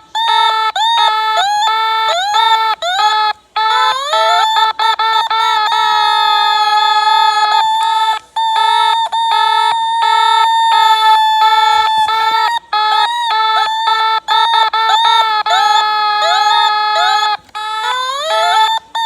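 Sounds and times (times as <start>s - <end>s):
held high tone: 0.0s - 19.0s
beeping tones: 0.1s - 19.0s.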